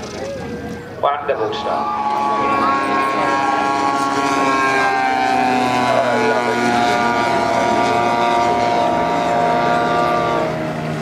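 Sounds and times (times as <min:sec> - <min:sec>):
propeller aircraft flying past: 0:00.0 - 0:11.0.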